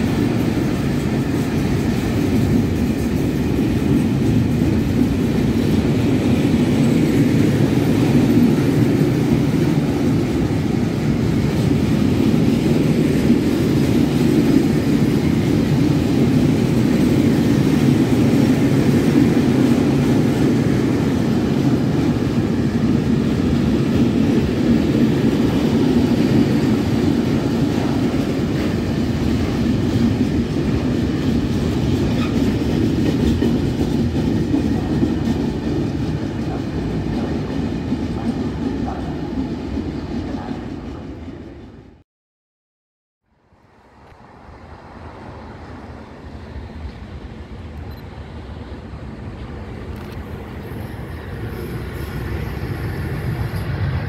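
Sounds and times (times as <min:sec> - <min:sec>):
train wheels rumbling on rails: 0:00.0 - 0:42.0, 0:43.8 - 0:54.0.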